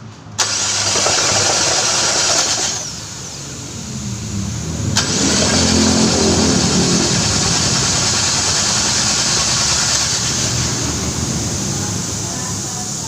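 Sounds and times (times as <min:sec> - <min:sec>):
car engine running: 0:00.3 - 0:13.0.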